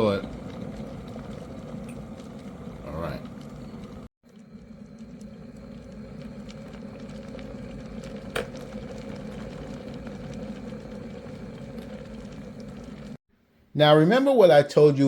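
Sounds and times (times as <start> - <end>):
kettle boiling rumble: 0.0 - 13.2.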